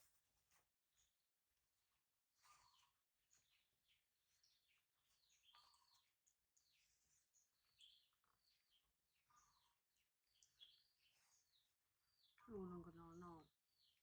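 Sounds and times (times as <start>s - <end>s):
birds chirping: 2.4s - 14.0s.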